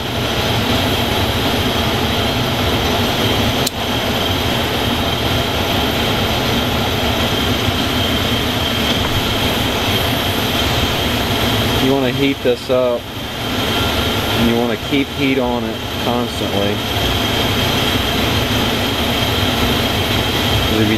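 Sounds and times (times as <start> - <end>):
torch flame hissing: 0.0 - 20.9.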